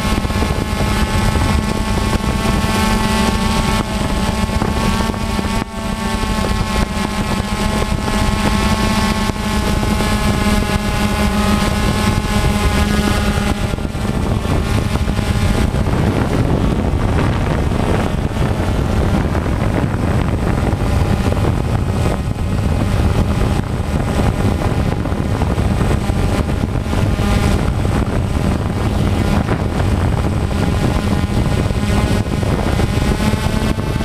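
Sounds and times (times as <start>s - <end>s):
drone propellers buzzing: 0.0s - 34.0s
wind rush: 0.0s - 34.0s.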